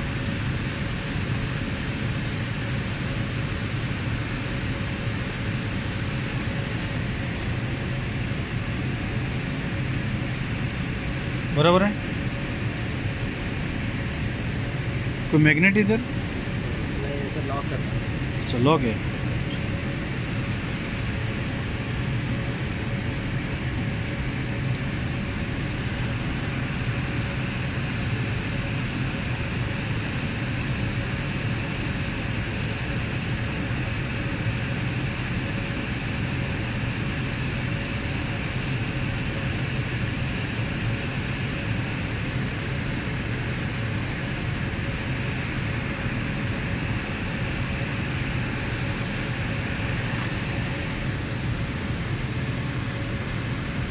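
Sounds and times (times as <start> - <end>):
cooling fans whirring: 0.0 - 53.9.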